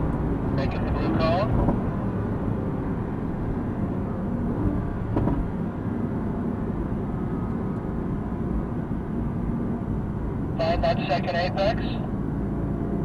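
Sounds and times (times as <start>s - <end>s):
car engine rumble inside car: 0.0s - 13.0s.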